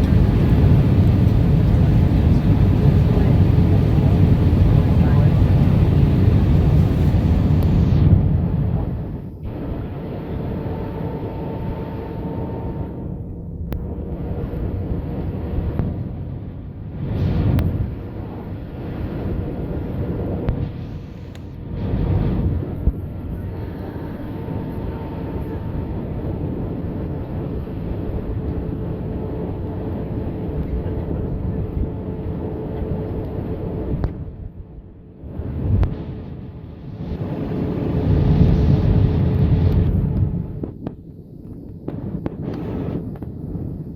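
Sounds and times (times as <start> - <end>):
aircraft cabin engine rumble: 0.0 - 43.9
mid-pitched hum: 0.0 - 43.9.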